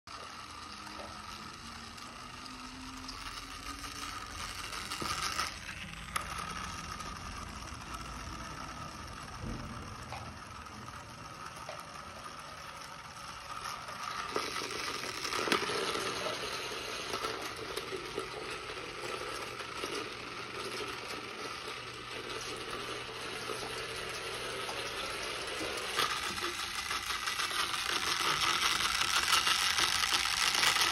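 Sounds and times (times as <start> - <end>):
toy car motor whirring: 0.0 - 30.9
toy wheels rattling: 0.0 - 30.9.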